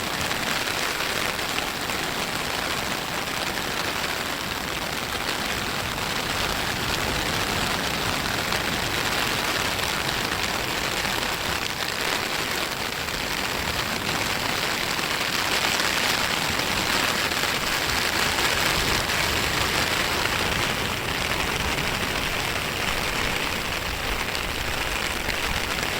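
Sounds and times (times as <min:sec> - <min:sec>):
surf washing on sand: 0:00.0 - 0:25.9.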